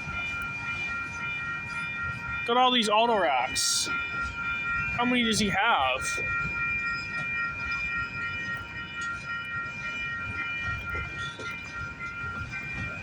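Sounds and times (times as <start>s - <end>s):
high-pitched ringing tone: 0.0s - 13.0s
train wheels rumbling on rail: 0.0s - 13.0s.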